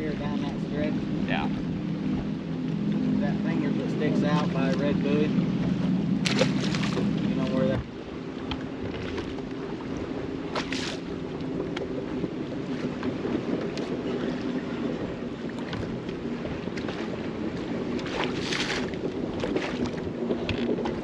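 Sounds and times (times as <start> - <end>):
steady low hum: 0.0 - 21.0
waves lapping against boat hull: 0.0 - 21.0
wind: 0.0 - 21.0
wind buffeting microphone: 0.0 - 21.0.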